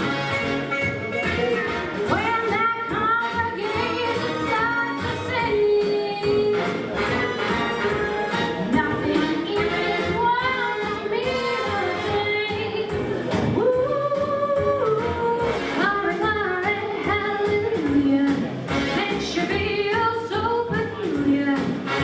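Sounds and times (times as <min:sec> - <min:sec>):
band playing with steady beat: 0:00.0 - 0:22.0
woman singing: 0:02.1 - 0:07.0, 0:08.6 - 0:22.0.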